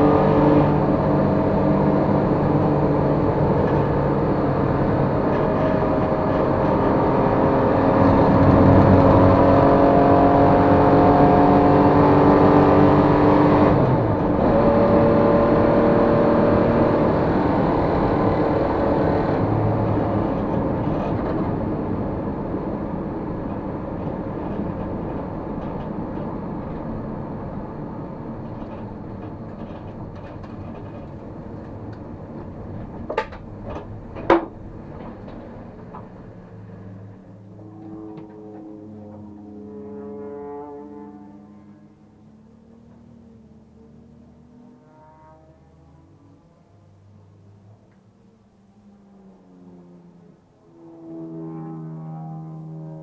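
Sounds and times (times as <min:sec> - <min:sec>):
racing engine under load: 0:00.0 - 0:53.0.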